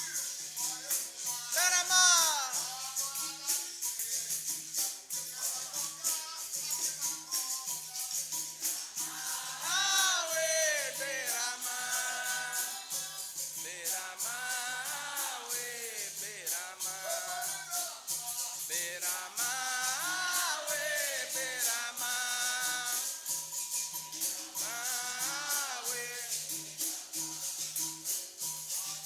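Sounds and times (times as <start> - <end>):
voices singing: 0.0 - 27.6
berimbau rhythm: 0.0 - 29.0
pandeiro jingling: 0.0 - 29.0.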